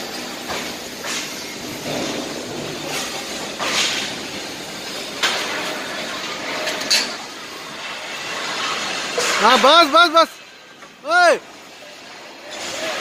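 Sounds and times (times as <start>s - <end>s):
electric hoist running: 0.0s - 13.0s.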